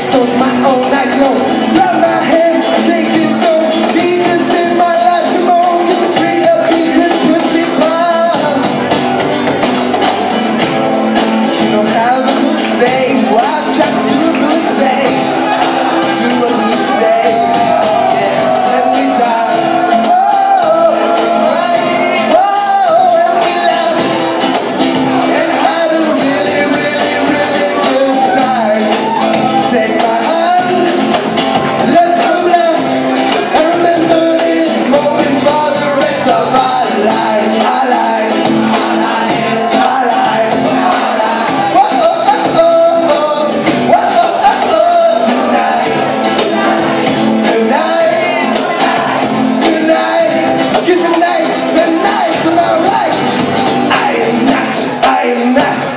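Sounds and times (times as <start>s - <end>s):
person singing: 0.0s - 9.3s, 11.5s - 55.9s
cajon drumming: 0.0s - 55.9s
electric guitar: 0.0s - 55.9s.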